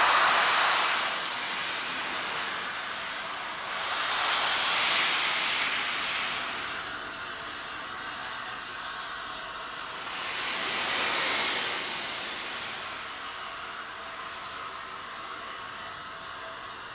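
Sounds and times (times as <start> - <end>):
steam locomotive hissing steam: 0.0 - 16.9.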